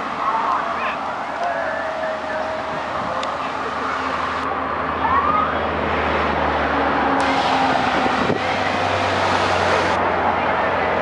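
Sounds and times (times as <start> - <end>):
traffic engine hum: 0.0 - 11.0
vehicle passing close: 0.0 - 11.0.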